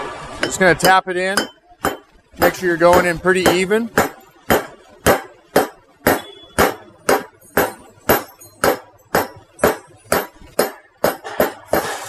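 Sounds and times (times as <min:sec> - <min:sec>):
hammer tapping metal: 0:00.4 - 0:12.0.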